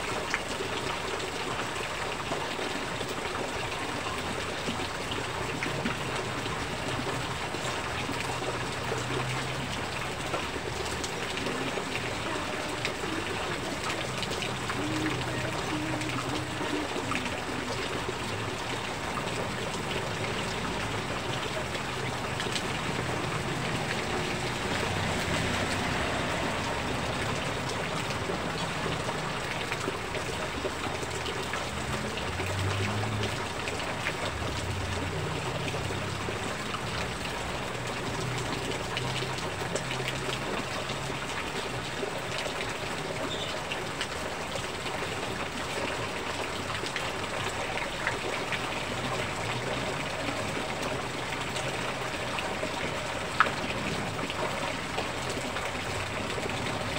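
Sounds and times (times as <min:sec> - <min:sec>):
heavy rain: 0:00.0 - 0:56.9
runoff pouring from roof edge: 0:00.0 - 0:56.9
water splashing on pavement: 0:00.0 - 0:56.9.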